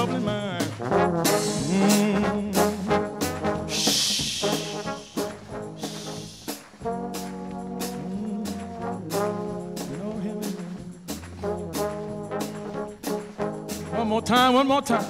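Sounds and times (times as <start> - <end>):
sharp percussive hits: 0.0 - 14.7
trombone band playing gospel: 0.0 - 15.0.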